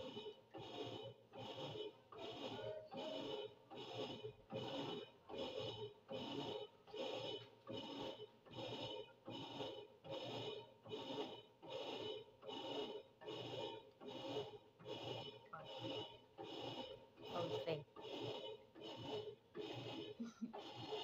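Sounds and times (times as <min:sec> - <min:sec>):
washing machine agitating: 0:00.0 - 0:21.0.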